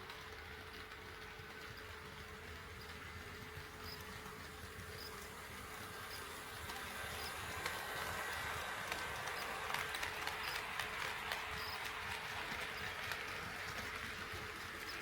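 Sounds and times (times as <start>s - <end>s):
model train wheels clicking: 0.0s - 15.0s.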